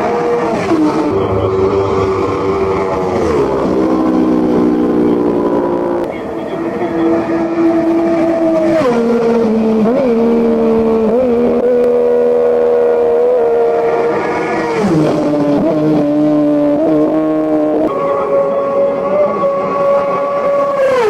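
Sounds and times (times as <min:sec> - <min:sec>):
racing motorcycle engine high revs: 0:00.0 - 0:21.0.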